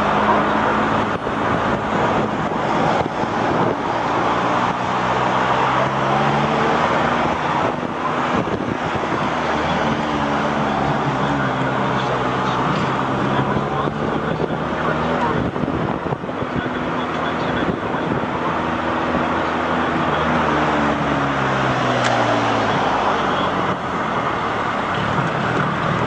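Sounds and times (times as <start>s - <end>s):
engine drone: 0.0s - 26.0s
outdoor noise: 0.0s - 26.0s.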